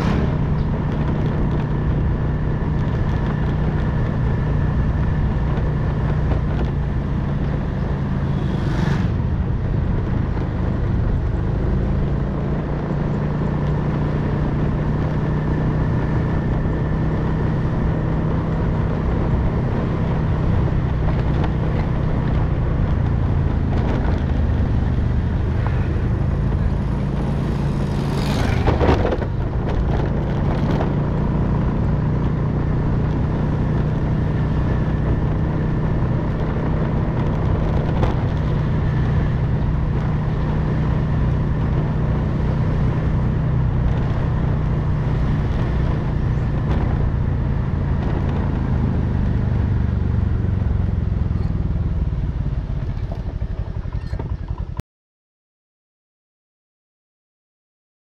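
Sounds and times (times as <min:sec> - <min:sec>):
motorcycle engine running: 0:00.0 - 0:54.8
road and wind noise: 0:00.0 - 0:54.8.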